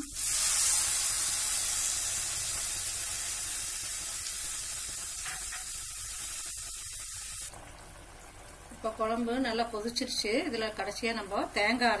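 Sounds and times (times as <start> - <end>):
liquid sizzling in a hot pan: 0.0 - 12.0.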